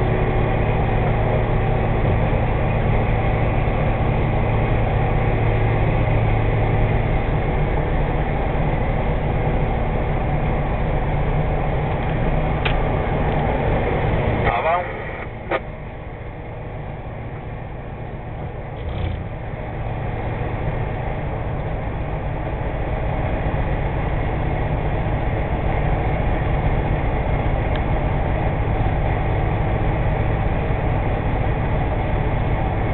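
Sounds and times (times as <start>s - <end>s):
snowblower diesel engine running: 0.0s - 32.9s.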